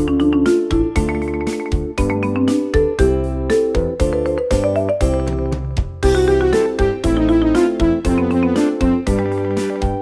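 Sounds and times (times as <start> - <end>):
keyboard tune with steady beat: 0.0 - 10.0.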